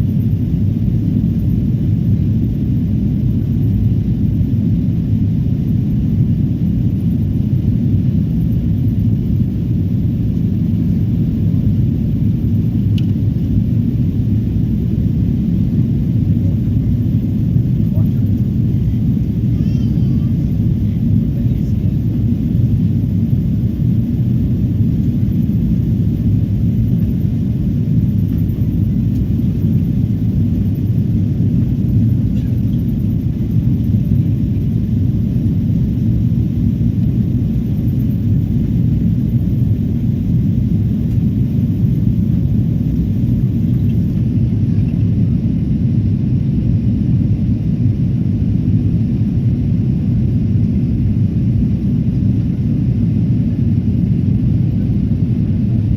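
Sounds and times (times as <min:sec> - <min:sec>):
jet engine and airflow rumble: 0:00.0 - 0:55.9.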